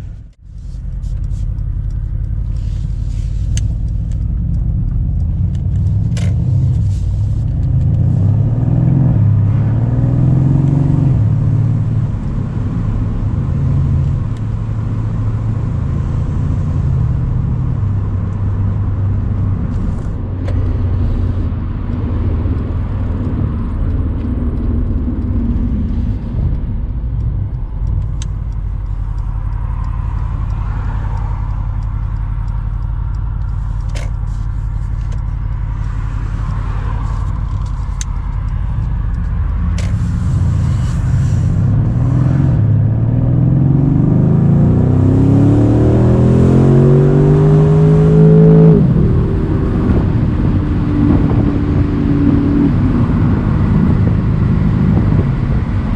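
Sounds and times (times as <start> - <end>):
car engine driving at speed: 0.0 - 55.9.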